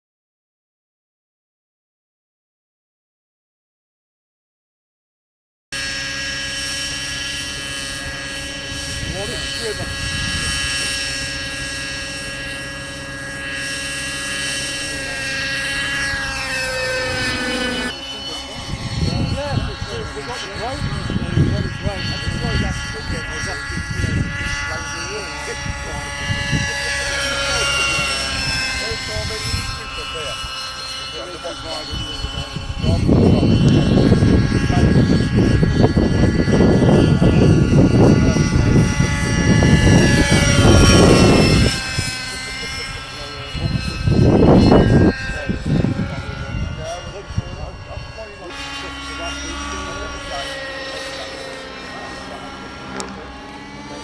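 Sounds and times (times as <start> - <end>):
model helicopter motor whine: 5.7 - 54.0.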